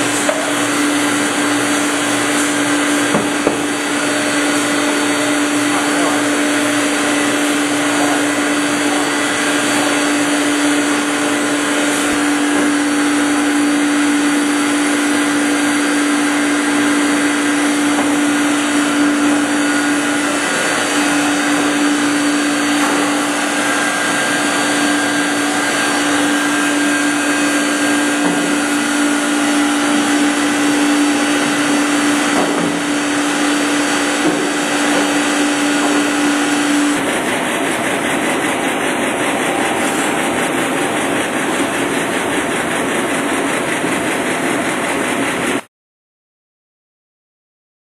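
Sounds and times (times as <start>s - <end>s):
machinery motor hum: 0.0s - 45.7s.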